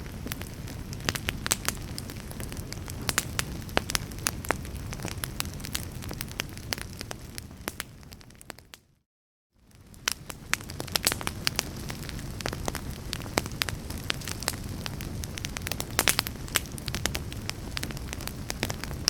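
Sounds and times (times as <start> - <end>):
fire crackling and popping: 0.0 - 8.8, 9.6 - 19.0.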